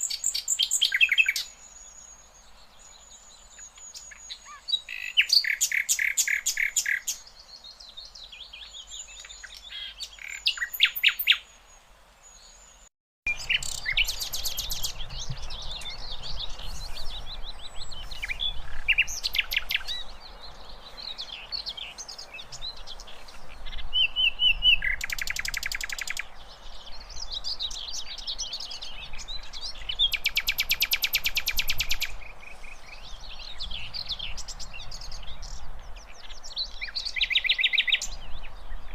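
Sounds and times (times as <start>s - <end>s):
bird singing rattling trills: 0.0s - 11.4s, 13.3s - 38.9s.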